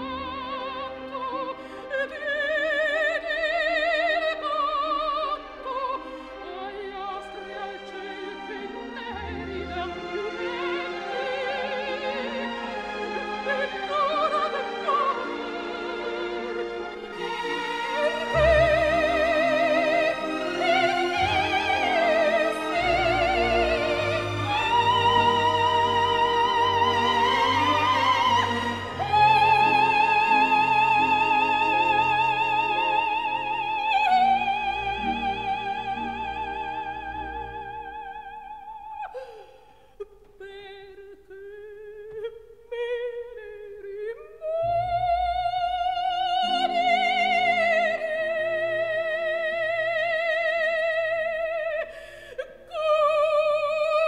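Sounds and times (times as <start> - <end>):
operatic singing: 0.0 - 54.0.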